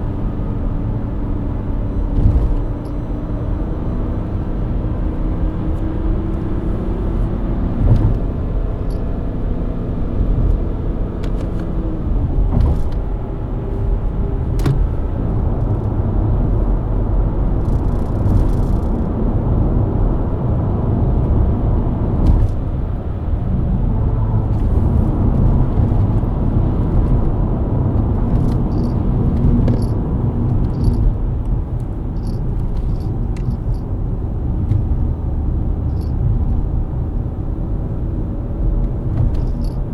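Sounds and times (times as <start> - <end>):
car engine cruising: 0.0 - 39.9
tyre and road rumble: 0.0 - 39.9.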